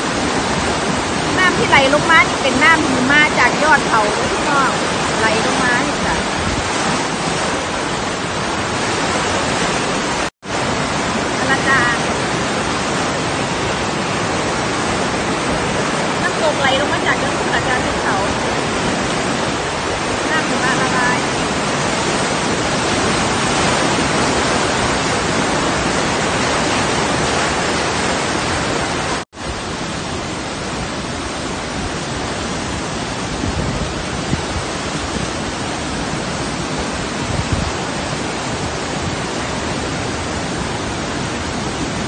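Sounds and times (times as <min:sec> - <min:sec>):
river rushing over rapids: 0:00.0 - 0:42.0.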